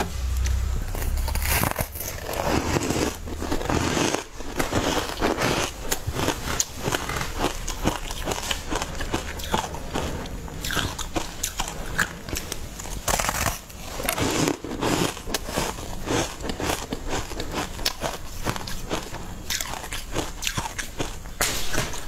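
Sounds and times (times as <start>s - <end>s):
person chewing cake: 0.0s - 22.0s.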